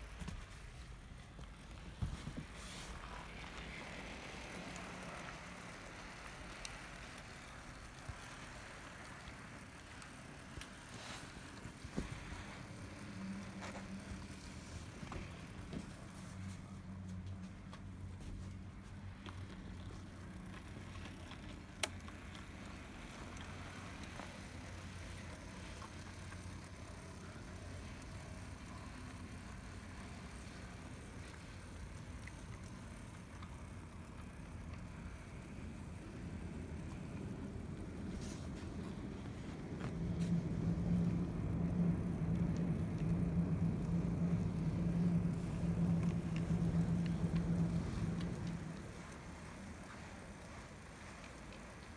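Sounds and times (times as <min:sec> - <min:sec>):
wheels running on rails: 0:00.0 - 0:51.9
model train motor humming: 0:01.4 - 0:51.9
faint clicks: 0:02.9 - 0:17.9, 0:18.5 - 0:51.9.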